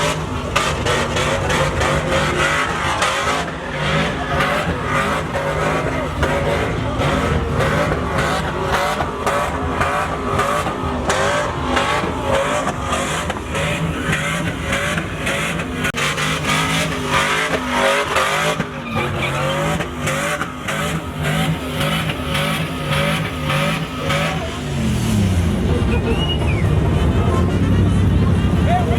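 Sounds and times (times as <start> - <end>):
truck engine revving hard: 0.0 - 28.9
tyres squealing on pavement: 0.0 - 28.9.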